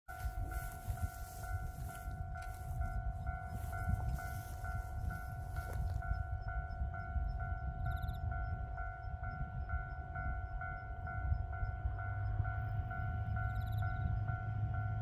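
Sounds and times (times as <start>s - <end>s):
level-crossing alarm chime: 0.1s - 15.0s.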